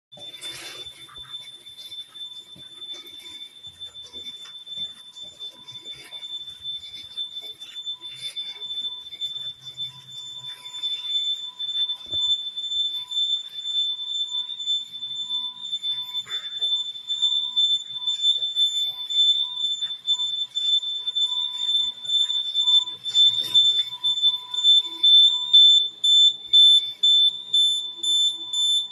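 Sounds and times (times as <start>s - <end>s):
high-pitched electronic alarm tone: 0.1s - 28.9s.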